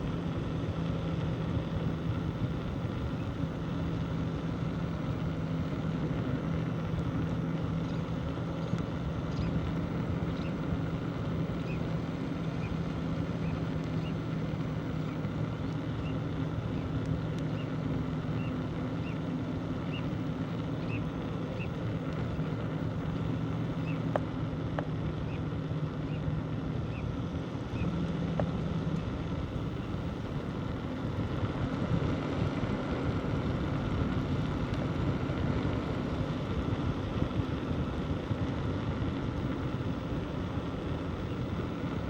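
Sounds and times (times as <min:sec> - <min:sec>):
low hum: 0:00.0 - 0:42.0
wind and road noise: 0:00.0 - 0:42.0.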